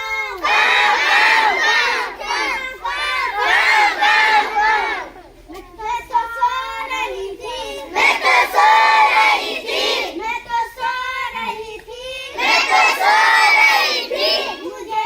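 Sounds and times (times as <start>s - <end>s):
children chanting in unison: 0.0s - 15.0s.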